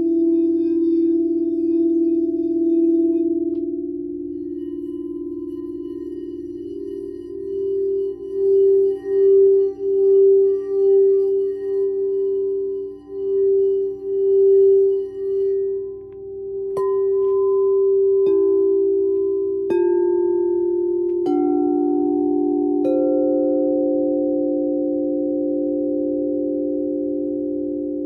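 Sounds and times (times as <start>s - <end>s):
singing bowl ringing: 0.0s - 28.0s
singing bowls struck: 0.0s - 28.0s.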